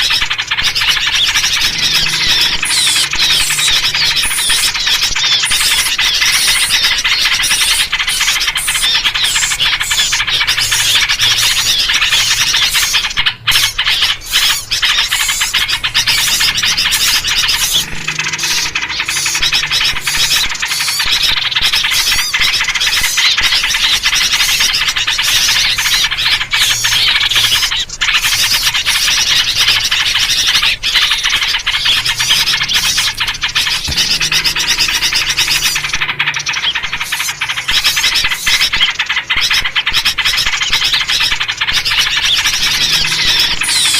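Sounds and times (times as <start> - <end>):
bulbul calls: 0.0 - 43.9
small birds chattering: 0.0 - 43.9.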